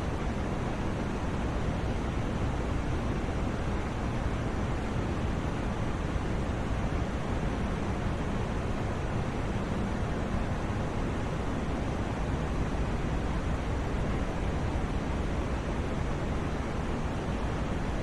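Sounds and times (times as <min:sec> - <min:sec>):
white noise hiss: 0:00.0 - 0:18.0.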